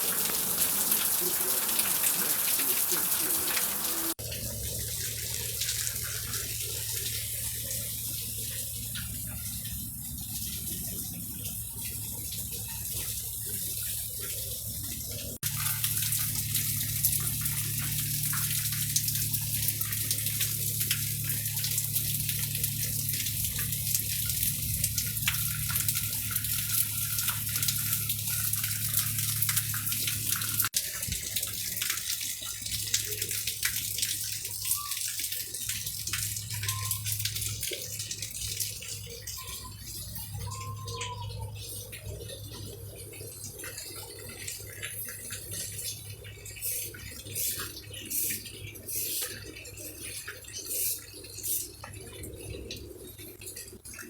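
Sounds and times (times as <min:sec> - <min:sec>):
rain patter: 0:00.0 - 0:54.0
running splashing water: 0:00.0 - 0:54.0.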